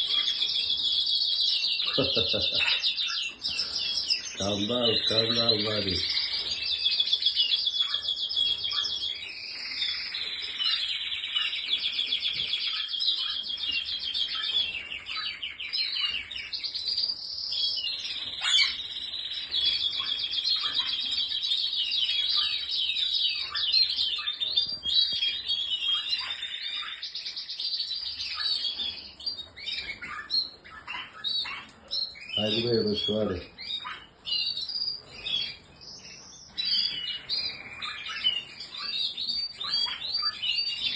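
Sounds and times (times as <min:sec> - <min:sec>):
canaries singing trills: 0:00.0 - 0:40.9.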